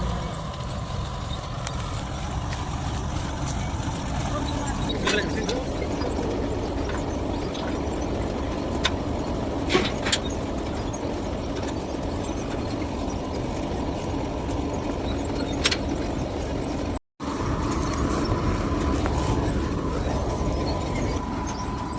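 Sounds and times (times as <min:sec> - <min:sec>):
combine harvester engine running: 0:00.0 - 0:21.9.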